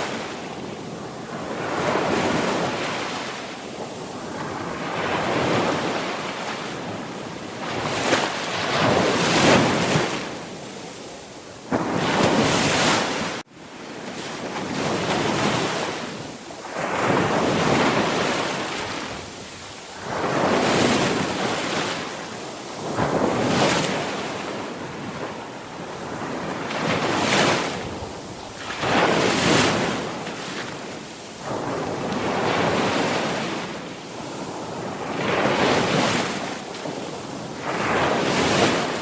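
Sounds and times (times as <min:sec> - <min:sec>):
sea waves breaking ashore: 0:00.0 - 0:39.0.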